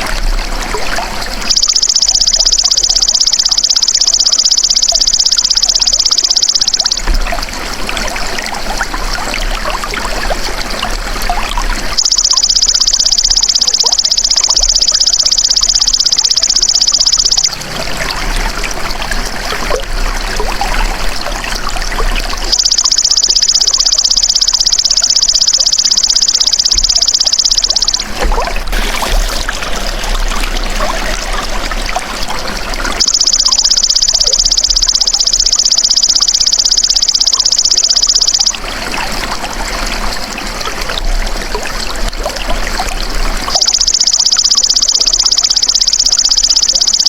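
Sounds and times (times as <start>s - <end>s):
trickle of running water: 0.0s - 47.0s.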